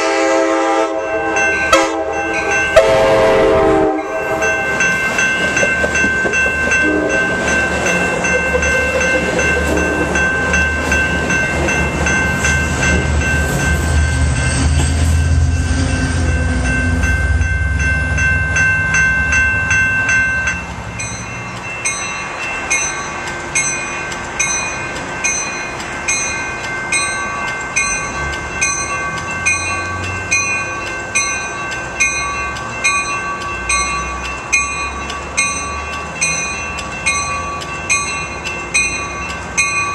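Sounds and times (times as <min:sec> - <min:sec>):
passenger train rolling past: 0:00.0 - 0:39.9
high ringing tones: 0:00.8 - 0:39.9
bell dinging: 0:00.9 - 0:39.9.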